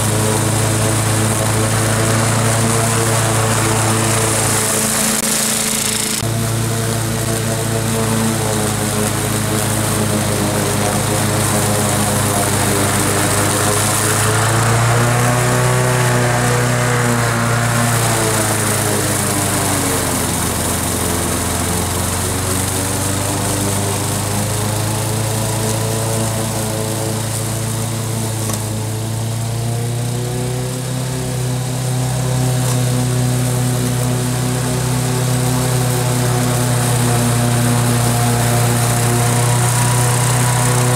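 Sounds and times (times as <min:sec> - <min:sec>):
mower engine cutting grass: 0:00.0 - 0:40.9.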